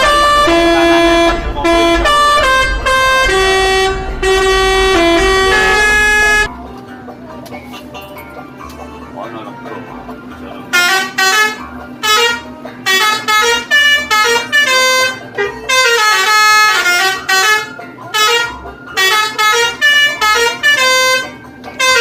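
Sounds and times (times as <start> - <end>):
multi-tone bus air horn: 0.0 - 6.6, 10.3 - 22.0.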